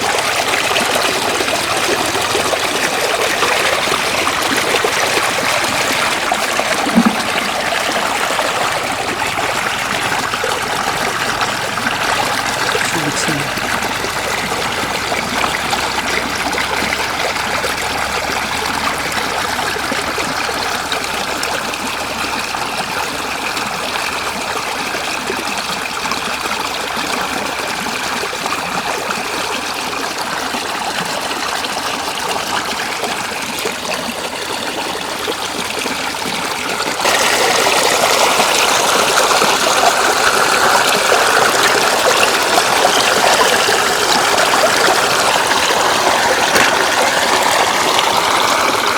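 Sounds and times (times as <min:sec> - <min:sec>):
floodwater rushing: 0:00.0 - 0:48.9.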